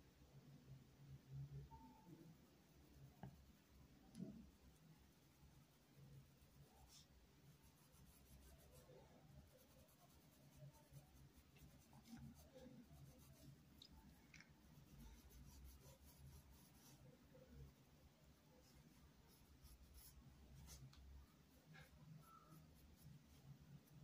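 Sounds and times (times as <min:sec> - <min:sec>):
paintbrush scratching on cloth: 0:02.6 - 0:24.0.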